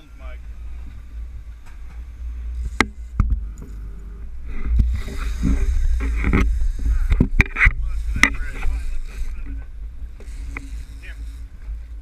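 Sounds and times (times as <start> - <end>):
water washing around boat: 0.0 - 12.0
wind rumble on microphone: 0.0 - 12.0.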